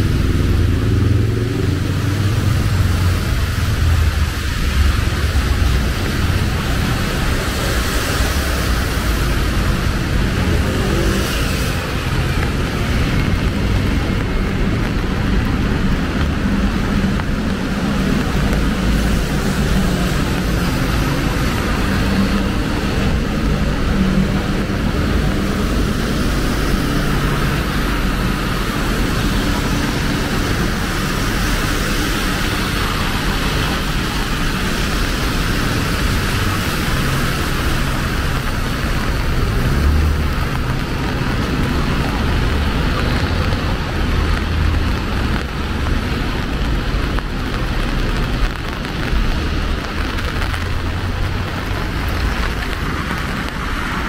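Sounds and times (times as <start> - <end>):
rain hiss: 0.0 - 54.0
vehicle engines running: 0.0 - 54.0.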